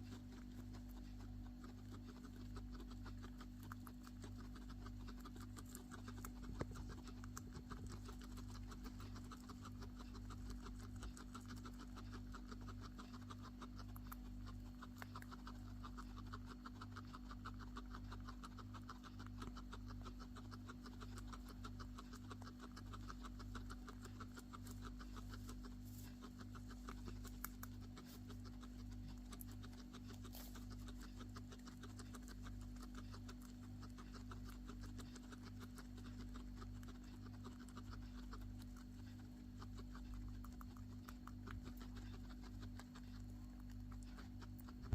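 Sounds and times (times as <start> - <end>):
guinea pig coughing: 0.0 - 44.9
steady low hum: 0.0 - 44.9.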